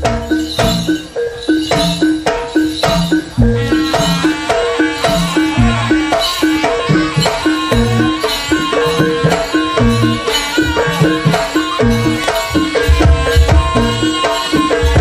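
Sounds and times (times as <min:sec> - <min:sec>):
hand drum strokes: 0:00.0 - 0:15.0
metal-keyed percussion notes: 0:00.0 - 0:15.0.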